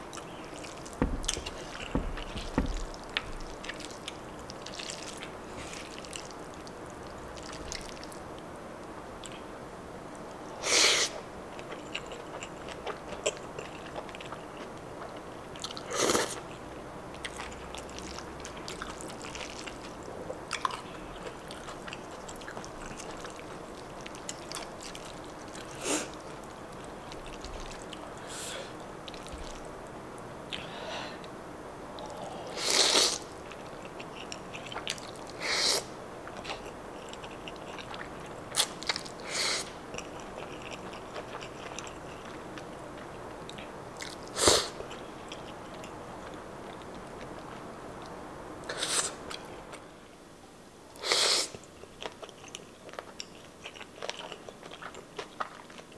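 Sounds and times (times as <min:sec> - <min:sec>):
chewing: 0:00.0 - 0:08.2, 0:11.5 - 0:29.7, 0:32.0 - 0:35.4, 0:36.3 - 0:49.8, 0:51.5 - 0:55.9.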